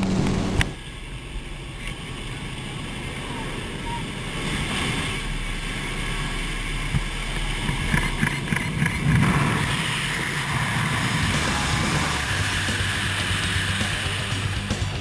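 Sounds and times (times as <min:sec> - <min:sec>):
propeller aircraft engines: 0:00.0 - 0:15.0.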